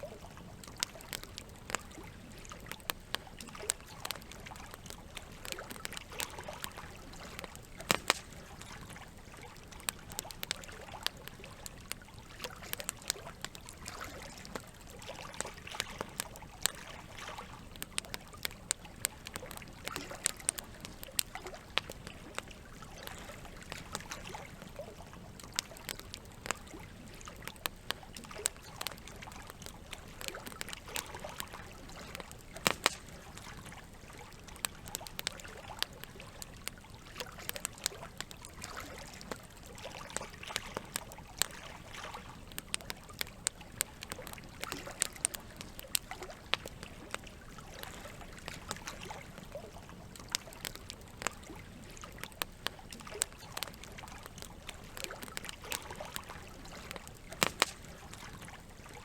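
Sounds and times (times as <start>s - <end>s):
campfire crackling and popping: 0.0s - 59.0s
running water trickling: 0.0s - 59.0s.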